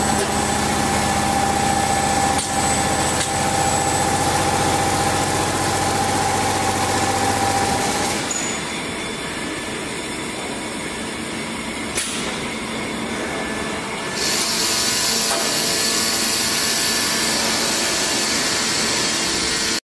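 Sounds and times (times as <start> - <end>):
industrial machinery running: 0.0 - 19.8.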